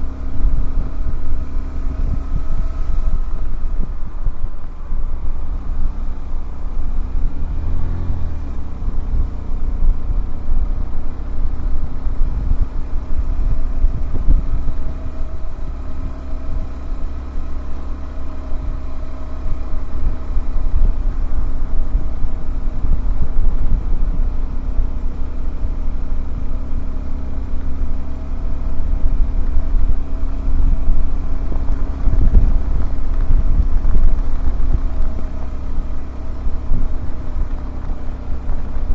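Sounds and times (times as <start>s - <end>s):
motorcycle engine cruising: 0.0s - 38.9s
wind rumble on microphone: 0.0s - 38.9s.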